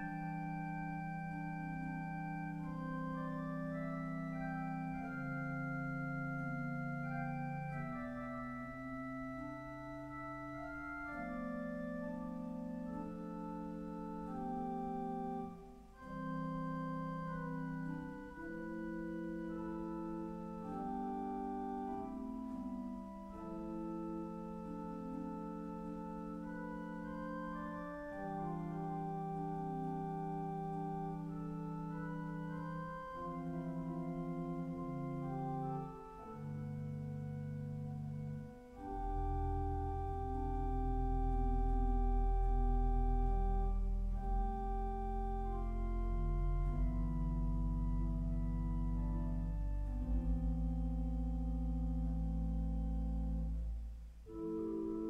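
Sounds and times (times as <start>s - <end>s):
pipe organ playing: 0.0s - 55.0s.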